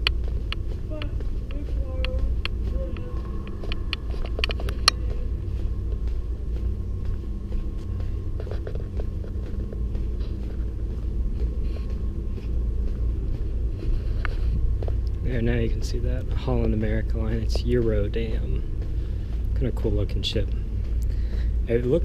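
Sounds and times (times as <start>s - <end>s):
faint constant hum: 0.0s - 22.0s
footstep clicks: 0.0s - 22.0s
wind rumble on microphone: 0.0s - 22.0s.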